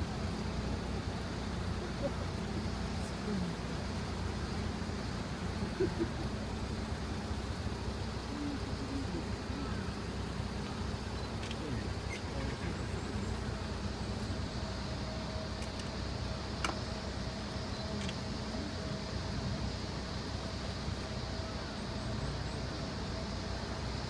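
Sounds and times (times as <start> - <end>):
faint distant voices: 0.0 - 24.0
outdoor rumble and hiss: 0.0 - 24.0.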